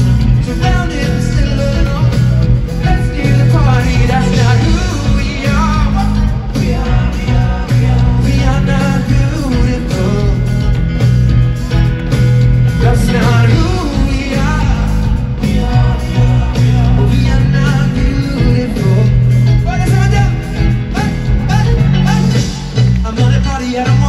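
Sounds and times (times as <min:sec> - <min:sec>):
person singing: 0:00.0 - 0:11.8, 0:12.7 - 0:24.0
heavy bass line: 0:00.0 - 0:24.0
live pop-rock band: 0:00.0 - 0:24.0.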